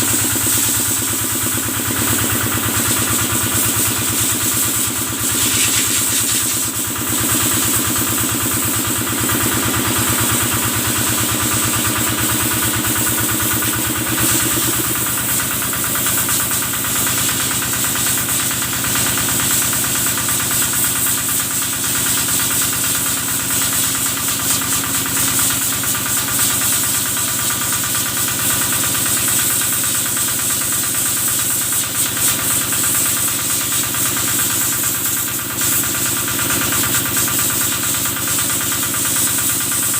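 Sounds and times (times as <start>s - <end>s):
water pump engine chugging: 0.0s - 39.9s.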